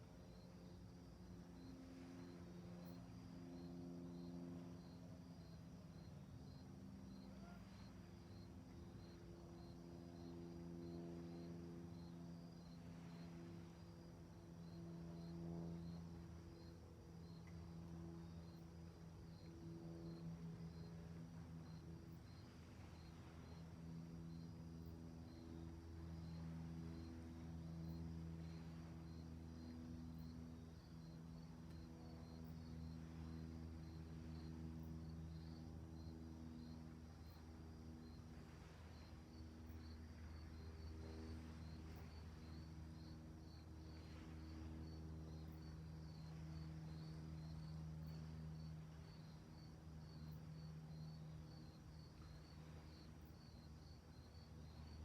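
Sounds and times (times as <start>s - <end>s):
crickets chirping: 0.0s - 55.0s
low steady hum: 0.0s - 55.0s.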